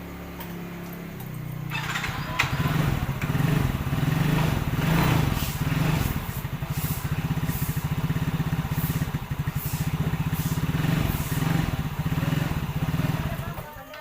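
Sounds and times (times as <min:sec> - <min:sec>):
scooter engine idling: 0:00.0 - 0:13.9.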